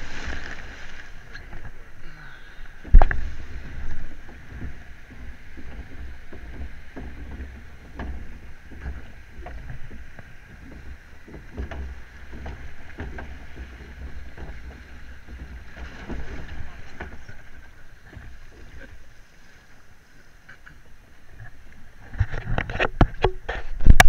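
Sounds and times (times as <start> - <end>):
wind rumble on microphone: 0.0 - 19.0, 21.1 - 24.0
water sloshing against boat: 0.0 - 24.0.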